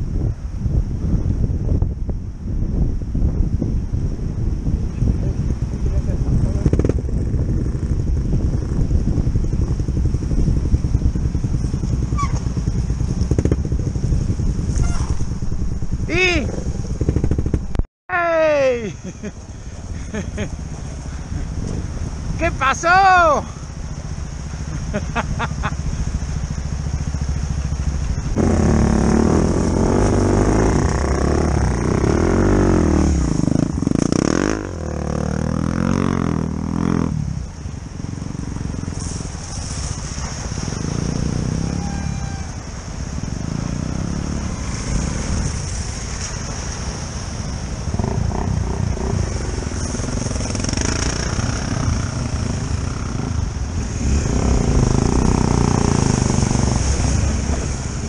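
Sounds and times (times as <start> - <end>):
motorcycle engines revving: 4.6 - 17.8, 18.6 - 58.0.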